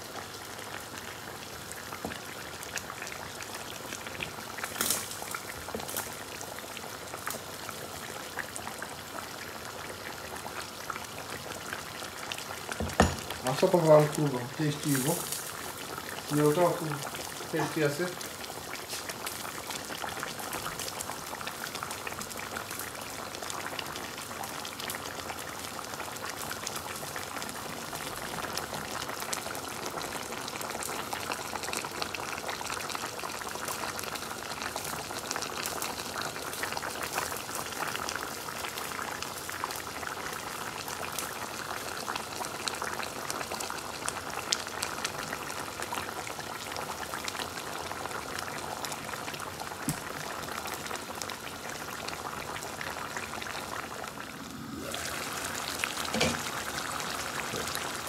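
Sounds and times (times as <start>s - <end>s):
curry bubbling in a pan: 0.0s - 58.0s.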